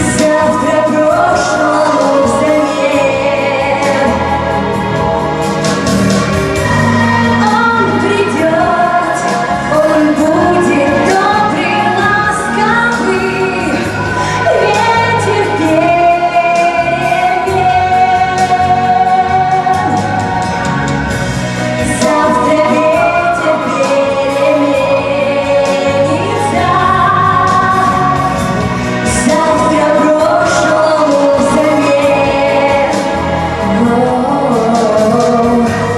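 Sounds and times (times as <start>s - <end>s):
song with singing and beat: 0.0s - 35.9s.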